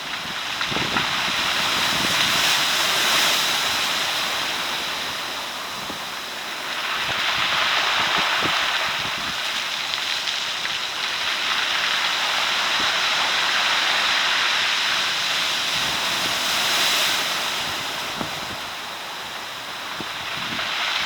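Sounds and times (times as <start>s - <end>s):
surf washing over cobblestones: 0.0s - 21.0s.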